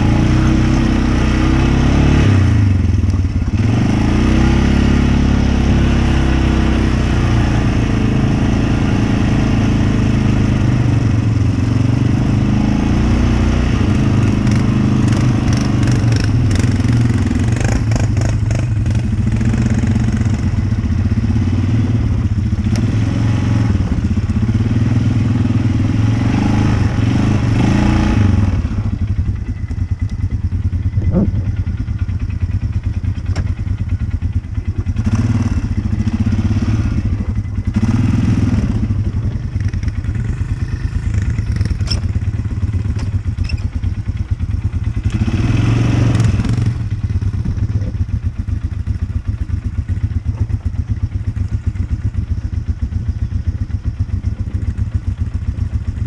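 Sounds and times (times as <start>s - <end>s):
off-road vehicle engine: 0.0s - 56.0s.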